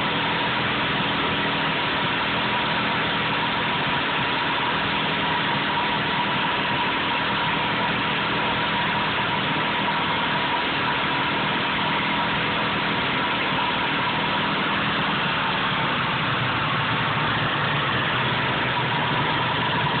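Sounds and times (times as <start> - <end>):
two-stroke engine idling: 0.0 - 20.0.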